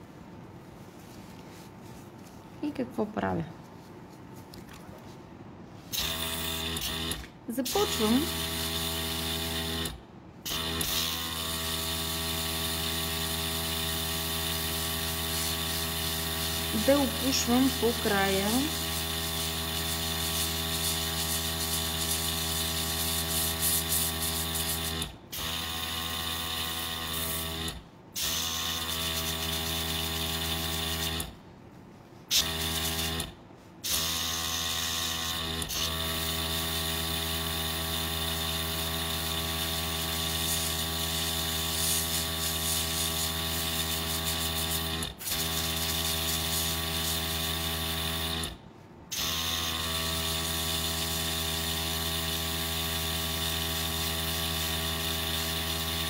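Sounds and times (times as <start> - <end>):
airbrush compressor hum: 5.8 - 31.4, 32.3 - 48.6, 49.2 - 56.0.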